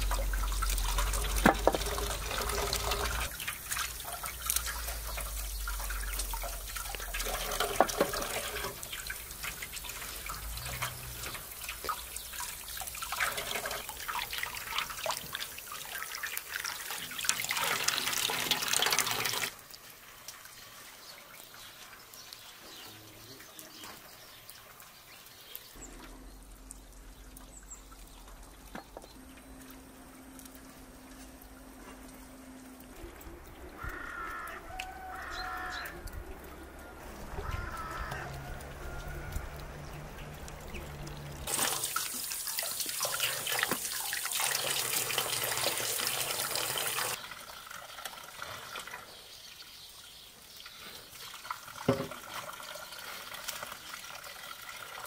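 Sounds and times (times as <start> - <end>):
splashing and clatter of washing: 0.0 - 32.4, 35.2 - 55.0
water running into metal basin: 0.0 - 55.0.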